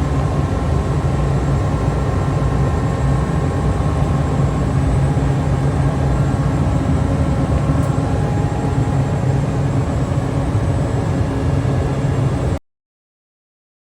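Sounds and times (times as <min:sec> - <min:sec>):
chiller machinery humming: 0:00.0 - 0:12.6.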